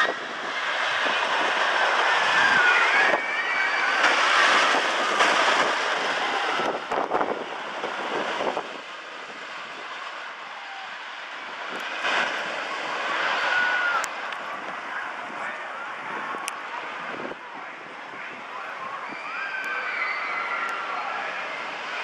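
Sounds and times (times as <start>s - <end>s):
roller coaster rumbling roar: 0.0s - 22.0s.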